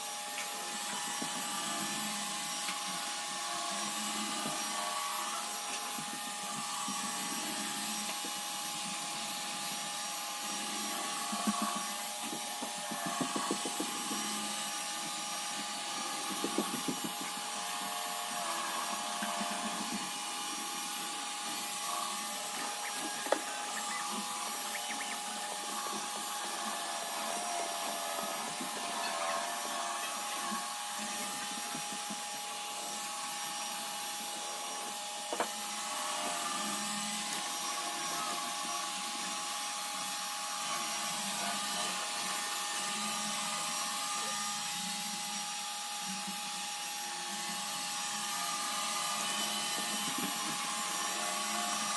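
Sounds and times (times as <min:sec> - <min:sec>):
robot vacuum humming: 0:00.0 - 0:51.9.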